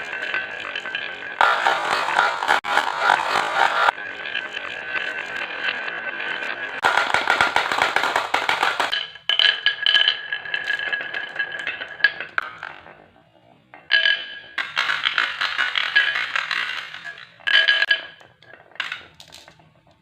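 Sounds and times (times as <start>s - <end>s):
marbles rolling down wooden run: 0.0s - 13.1s, 13.8s - 20.0s.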